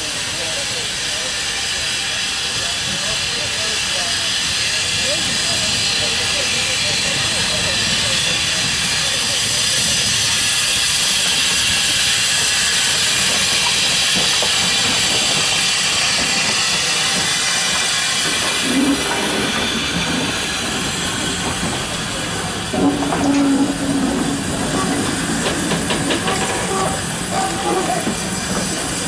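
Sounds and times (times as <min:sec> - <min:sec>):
loud steam hiss: 0:00.0 - 0:29.0
steam locomotive pulling away: 0:00.0 - 0:29.0
train wheels clattering over rails: 0:05.0 - 0:29.0.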